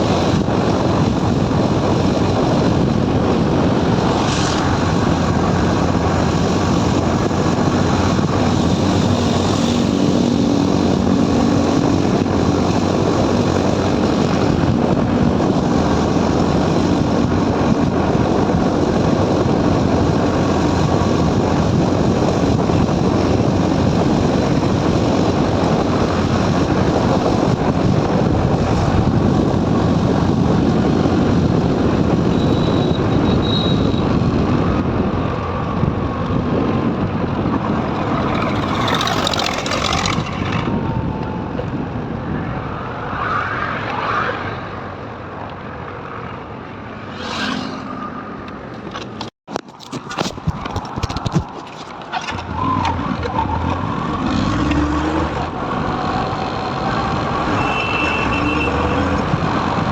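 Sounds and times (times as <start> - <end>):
wind rushing: 0.0 - 45.1, 46.0 - 49.3
motorcycle riding noise: 0.0 - 59.9
passing traffic: 0.0 - 59.9.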